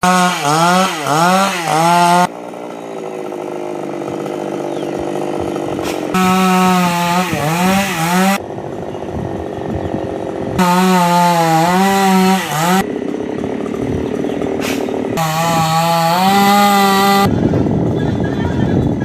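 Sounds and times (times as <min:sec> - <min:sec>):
chainsaw cutting wood: 0:00.0 - 0:17.3.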